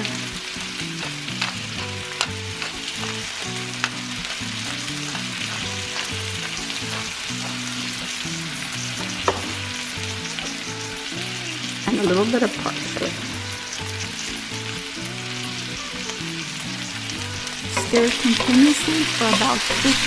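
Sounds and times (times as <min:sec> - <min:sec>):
potatoes and bacon sizzling: 0:00.0 - 0:20.0.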